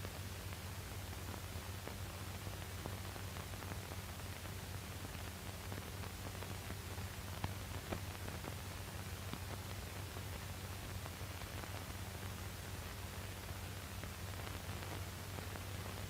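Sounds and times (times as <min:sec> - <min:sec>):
faint crackles: 0:00.0 - 0:16.0
film soundtrack hiss: 0:00.0 - 0:16.0
low mains hum: 0:00.0 - 0:16.0.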